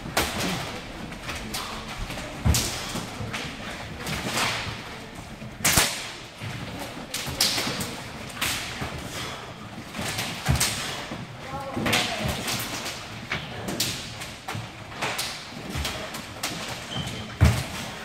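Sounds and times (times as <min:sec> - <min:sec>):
resistance bands swishing and snapping: 0:00.0 - 0:18.0.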